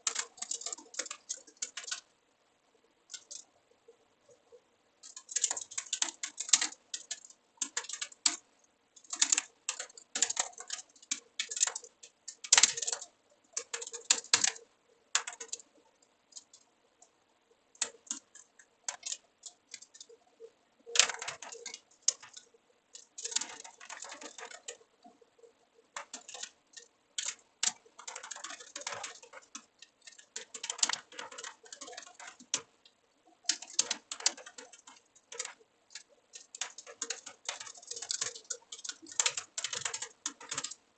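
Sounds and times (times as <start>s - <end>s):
keyboard typing: 0.0s - 2.1s, 5.0s - 16.7s, 17.7s - 25.2s, 25.9s - 40.8s.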